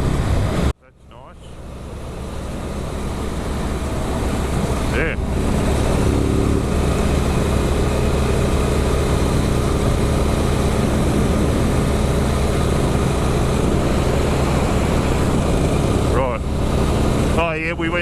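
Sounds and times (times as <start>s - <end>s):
motorcycle engine running: 1.3s - 18.0s
wind noise: 2.6s - 17.6s.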